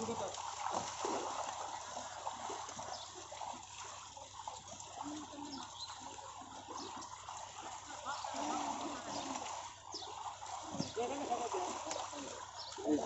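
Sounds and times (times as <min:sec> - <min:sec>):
fish thrashing and splashing: 0:00.0 - 0:13.0.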